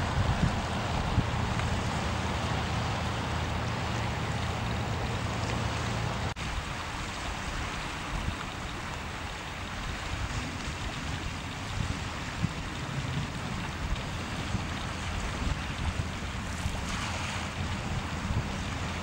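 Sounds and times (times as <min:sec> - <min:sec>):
wind rushing on microphone: 0:00.0 - 0:05.1, 0:06.0 - 0:19.0
low boat engine drone: 0:00.0 - 0:19.0.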